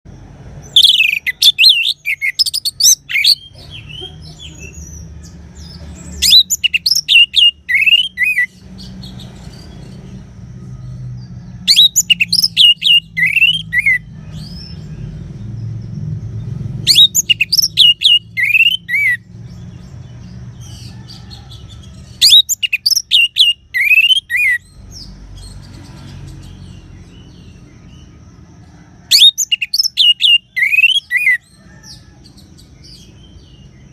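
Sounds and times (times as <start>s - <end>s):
songbird chirping and whistling: 0.6s - 15.2s, 16.5s - 20.7s, 21.5s - 28.2s, 29.1s - 33.9s.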